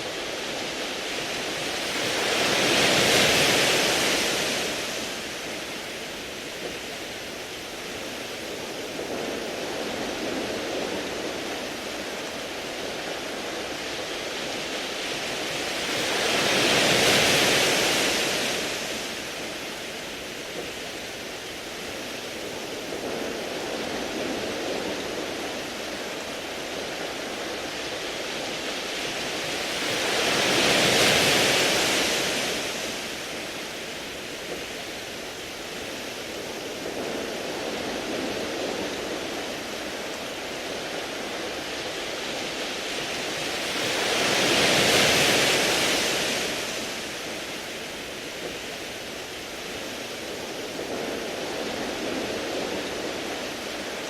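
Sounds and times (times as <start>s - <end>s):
waves washing onto pebbles: 0.0s - 54.0s.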